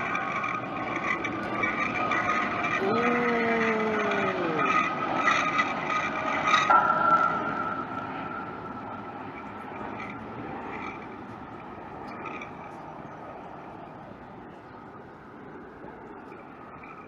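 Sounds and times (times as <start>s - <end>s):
faint high whine: 0.0s - 17.0s
jet aircraft engine rush: 0.0s - 17.0s.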